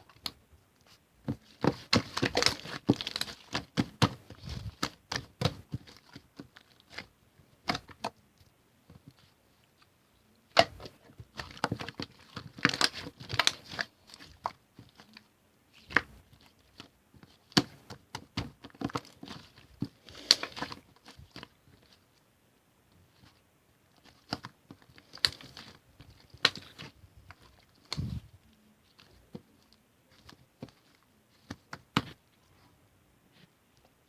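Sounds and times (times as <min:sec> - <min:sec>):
crinkling: 0:00.0 - 0:22.2, 0:22.9 - 0:34.0.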